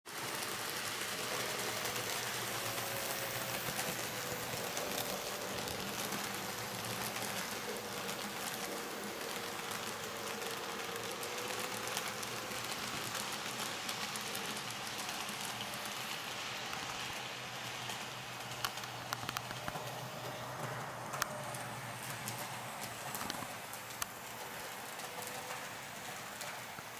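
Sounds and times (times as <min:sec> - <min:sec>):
model train wheels rolling: 0:00.1 - 0:26.9
wheels clicking over rail joints: 0:00.1 - 0:26.9.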